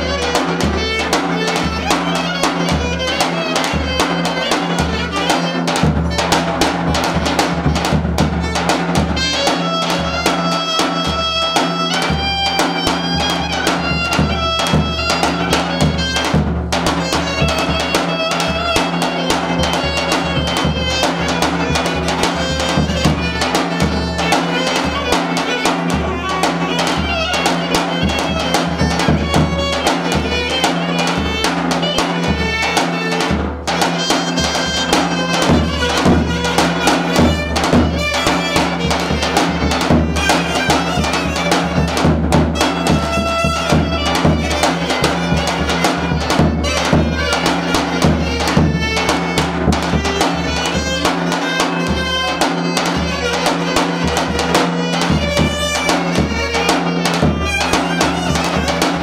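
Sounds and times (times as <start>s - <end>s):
ornamented folk melody: 0.0s - 59.0s
steady drumming: 0.0s - 59.0s.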